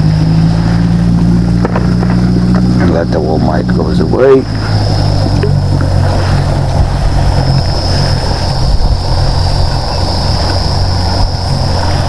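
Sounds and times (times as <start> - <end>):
steady low hum: 0.0 - 12.0
thin high whine: 0.0 - 12.0
wind and water hiss: 0.0 - 12.0.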